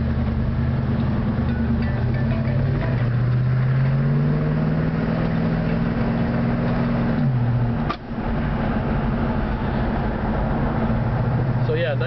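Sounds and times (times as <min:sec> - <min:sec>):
car engine running in cabin: 0:00.0 - 0:12.0.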